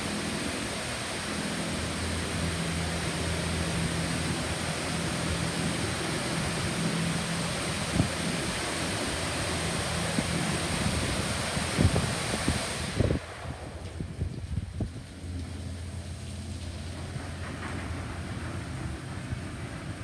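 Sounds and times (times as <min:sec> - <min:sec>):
water spraying onto car: 0:00.0 - 0:18.6
low machinery hum: 0:00.0 - 0:20.0.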